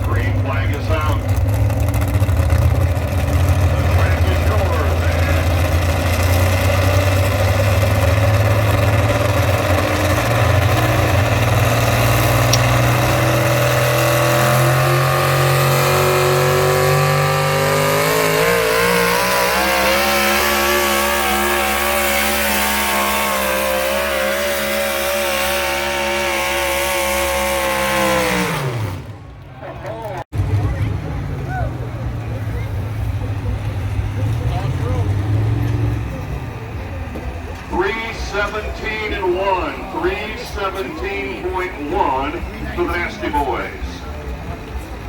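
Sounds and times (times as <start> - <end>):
tractor engine at full throttle: 0.0 - 45.0.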